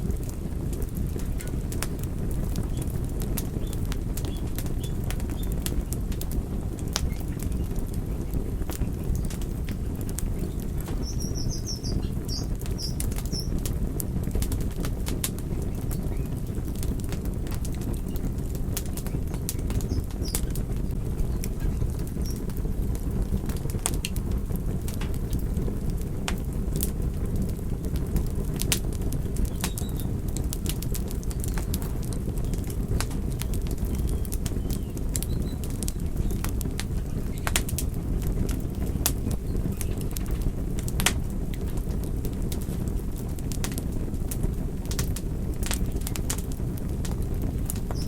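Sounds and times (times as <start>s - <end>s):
fire flames burning: 0.0s - 48.0s
wood crackling and popping: 0.0s - 48.0s.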